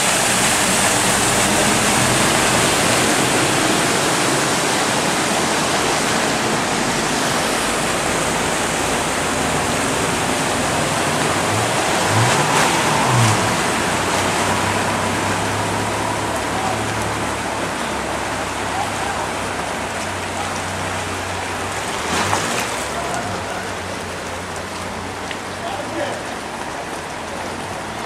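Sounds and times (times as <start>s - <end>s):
car engine passing: 0.0s - 26.2s
water rushing under tyres: 0.0s - 28.0s.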